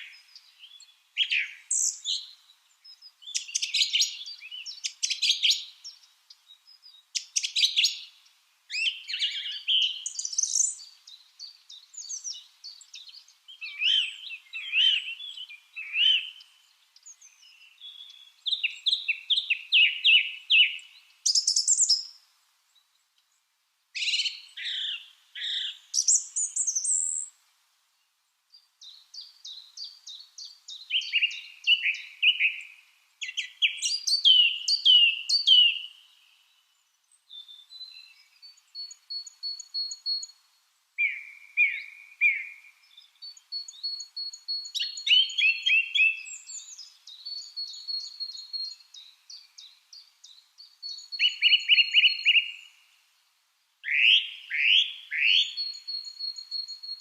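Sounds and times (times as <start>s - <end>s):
lovebirds chirping: 0.0s - 40.4s, 41.0s - 53.1s, 53.8s - 57.0s.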